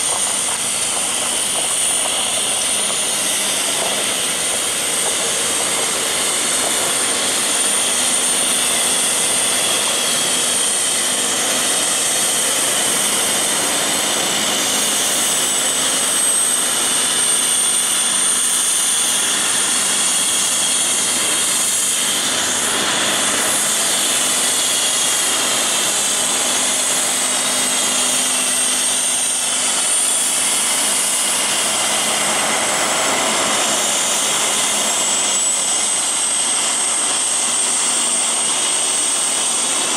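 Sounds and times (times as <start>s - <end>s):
high whine: 0.0s - 39.9s
truck running: 0.0s - 39.9s.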